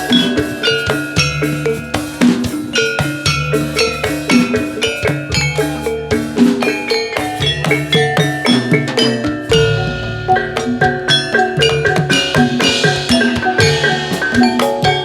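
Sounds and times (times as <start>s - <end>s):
drums: 0.0s - 15.0s
struck metal keyed instruments: 0.0s - 15.0s.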